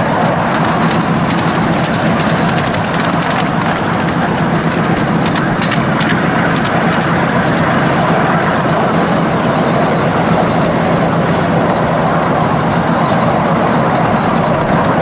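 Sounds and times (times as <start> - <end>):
small train engine hum: 0.0 - 15.0.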